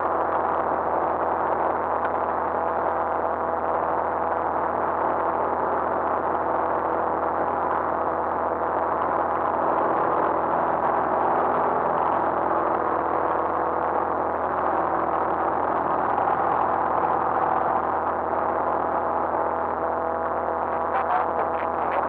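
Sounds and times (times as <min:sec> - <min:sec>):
propeller aircraft engine droning: 0:00.0 - 0:22.0.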